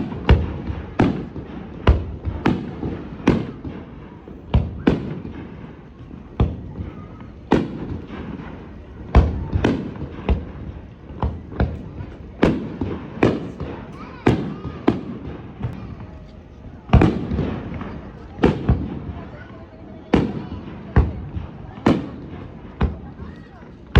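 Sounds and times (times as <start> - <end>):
fireworks bangs with echo: 0.0 - 23.9.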